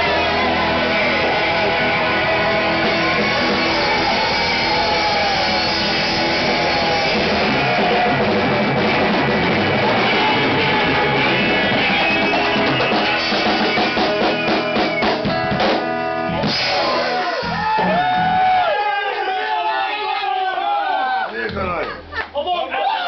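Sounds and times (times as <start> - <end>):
band accented hits: 0.0 - 18.6
blues-rock band playing: 0.0 - 18.6.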